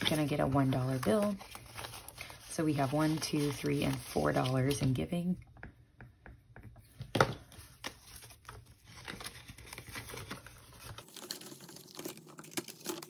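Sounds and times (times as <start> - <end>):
paper crinkling and rustling: 0.0 - 5.1, 7.1 - 13.0.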